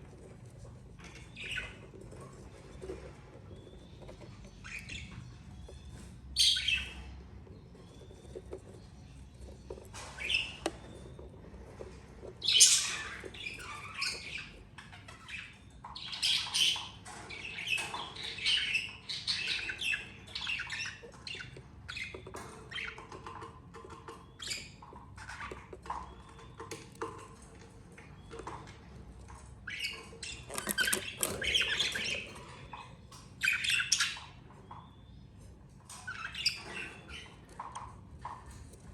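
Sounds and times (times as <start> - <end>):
budgerigars squawking and chirping: 0.0 - 38.9.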